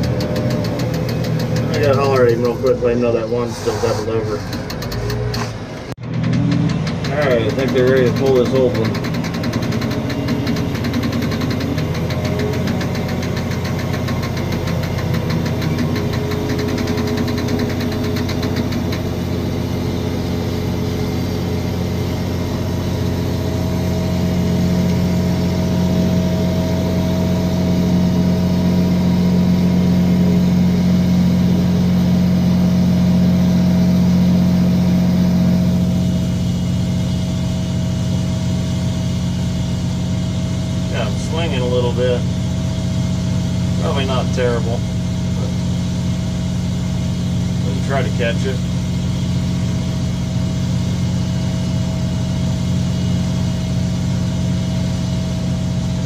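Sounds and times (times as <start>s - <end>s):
crane engine running: 0.0s - 56.0s.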